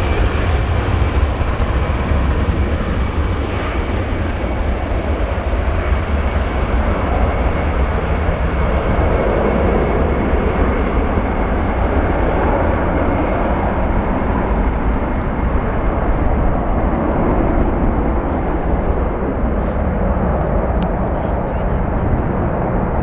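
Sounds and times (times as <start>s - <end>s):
jet engines on takeoff: 0.0s - 23.0s
wind rumble on microphone: 0.0s - 23.0s.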